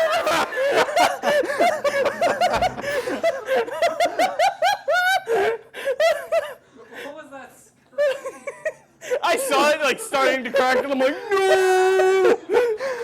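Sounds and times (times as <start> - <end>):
people laughing hard: 0.0 - 6.6, 8.0 - 13.0.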